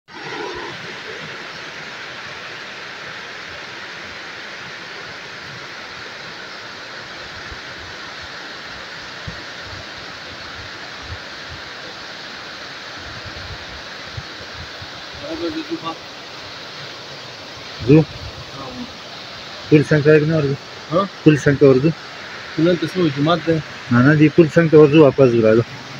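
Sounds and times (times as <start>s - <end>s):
river rushing over stones: 0.1s - 25.9s.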